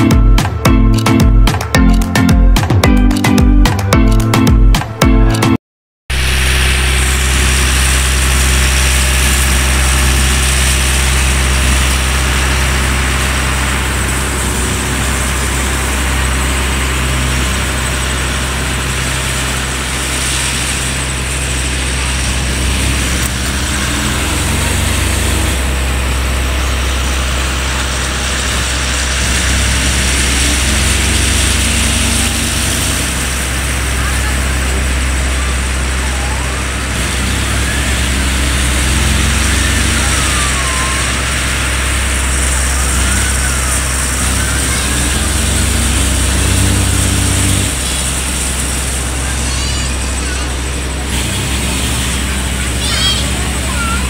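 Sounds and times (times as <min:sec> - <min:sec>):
loud low engine hum: 0:00.0 - 0:05.4, 0:06.1 - 0:54.0
people's voices: 0:07.1 - 0:54.0.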